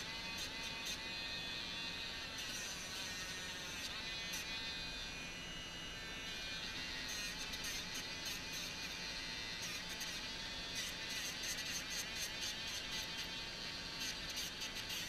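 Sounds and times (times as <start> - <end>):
electric nail grinder whine: 0.0 - 15.0.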